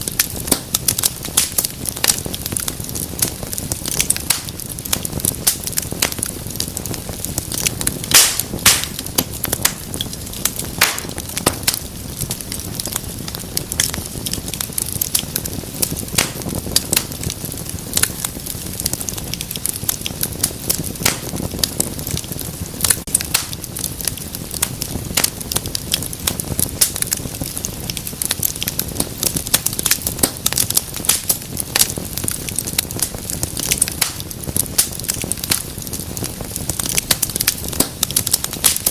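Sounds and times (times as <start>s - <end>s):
fire popping: 0.0s - 38.9s
wood fire crackling: 0.0s - 38.9s.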